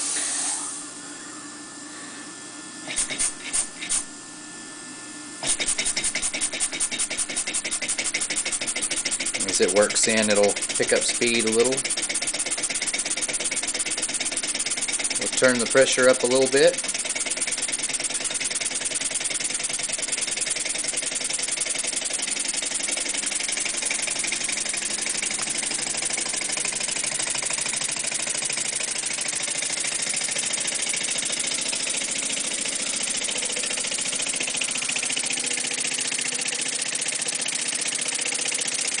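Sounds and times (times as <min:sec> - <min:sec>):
model steam engine chuffing: 0:05.4 - 0:39.0.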